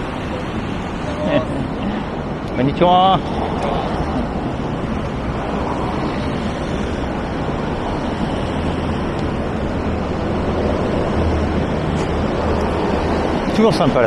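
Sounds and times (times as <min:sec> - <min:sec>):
bus passing: 0:00.0 - 0:14.0
road traffic roar: 0:00.0 - 0:14.0.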